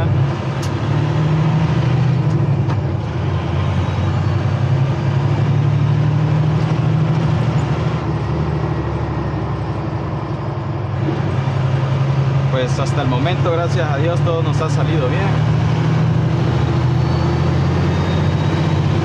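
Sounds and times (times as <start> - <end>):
road noise: 0.0 - 19.0
truck diesel engine droning: 0.0 - 19.0.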